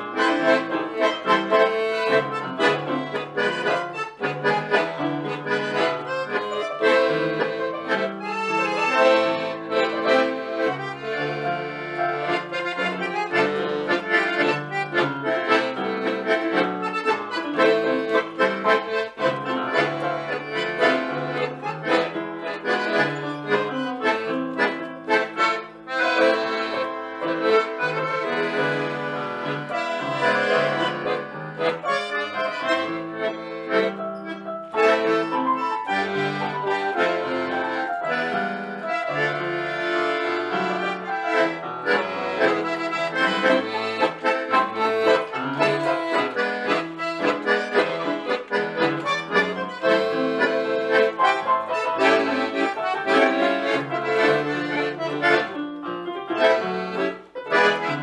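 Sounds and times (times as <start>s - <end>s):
instrumental tango: 0.0s - 58.0s.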